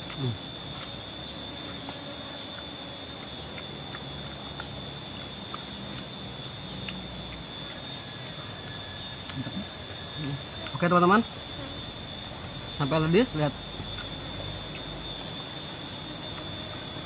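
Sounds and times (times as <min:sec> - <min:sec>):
insect drone: 0:00.0 - 0:17.0
small chirps: 0:00.0 - 0:17.0.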